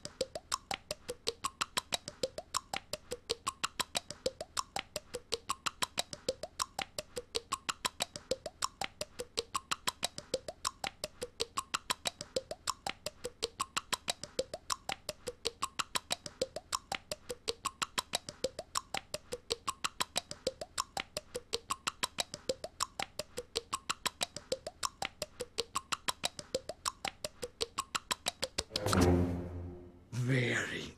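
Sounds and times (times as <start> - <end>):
girl's rapid tongue clicks: 0.0 - 28.8.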